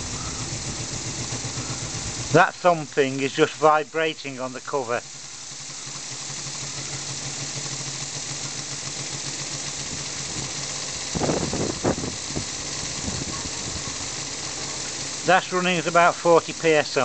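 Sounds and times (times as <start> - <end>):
air engine hissing and humming: 0.0 - 17.0.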